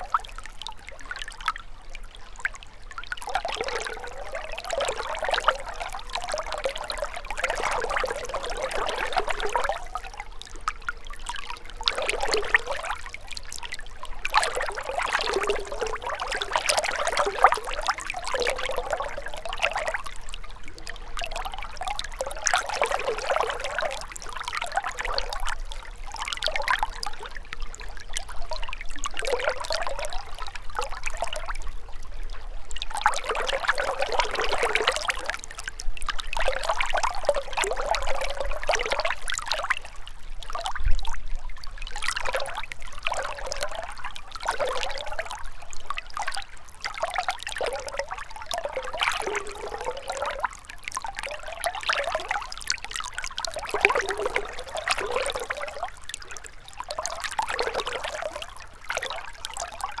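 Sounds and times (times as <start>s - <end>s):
stream gurgling over stones: 0.0s - 60.0s.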